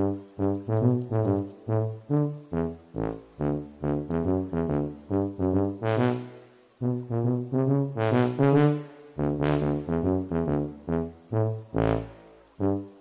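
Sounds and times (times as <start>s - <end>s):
low brass music: 0.0s - 13.0s.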